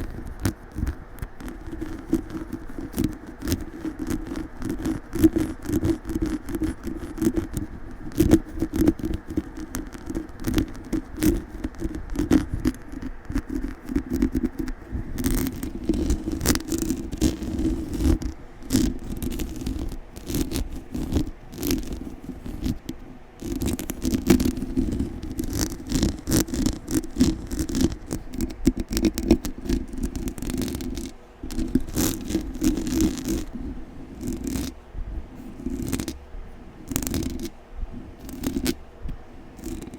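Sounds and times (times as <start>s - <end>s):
scratching on a microphone: 0.0s - 39.9s.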